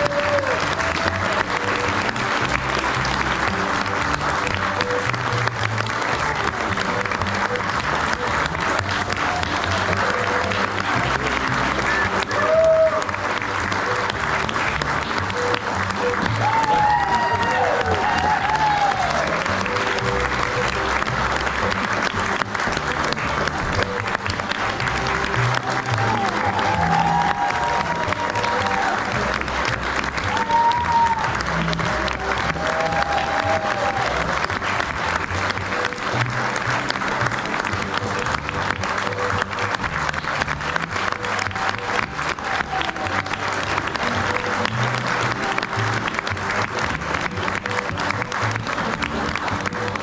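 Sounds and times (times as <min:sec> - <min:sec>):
audience applauding: 0:00.0 - 0:50.0
music playing: 0:00.0 - 0:50.0.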